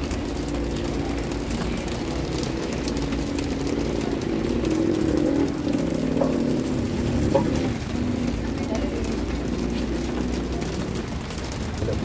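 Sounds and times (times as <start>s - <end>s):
steady rain: 0.0s - 12.0s
traffic rumble: 0.0s - 12.0s.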